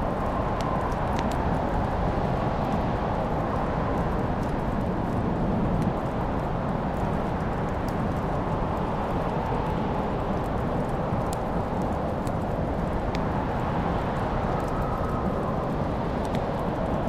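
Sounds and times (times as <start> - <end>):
fire crackling and popping: 0.0 - 17.0
fire roaring: 0.0 - 17.0.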